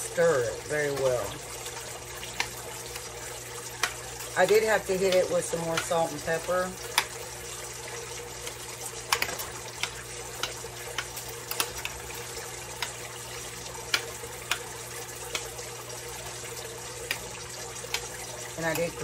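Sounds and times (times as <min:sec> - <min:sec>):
spoon stirring wet food: 0:02.3 - 0:07.4, 0:08.4 - 0:19.0.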